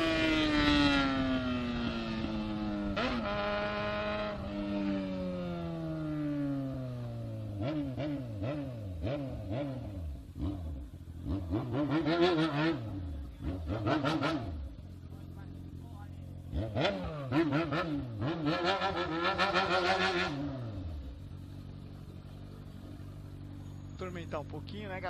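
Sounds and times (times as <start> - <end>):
motorcycle engine slowing: 0.0 - 25.0.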